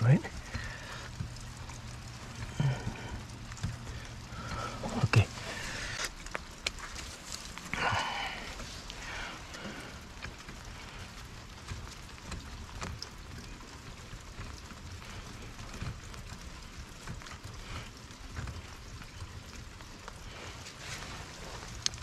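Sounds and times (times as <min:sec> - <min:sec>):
light rain hissing: 0:00.0 - 0:22.0.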